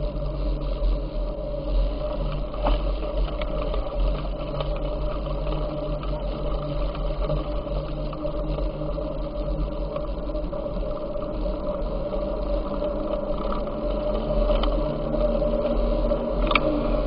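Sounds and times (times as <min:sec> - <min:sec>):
faint steady hum: 0:00.0 - 0:17.0
tyre and road noise: 0:00.0 - 0:17.0
wind rumble on microphone: 0:00.0 - 0:17.0.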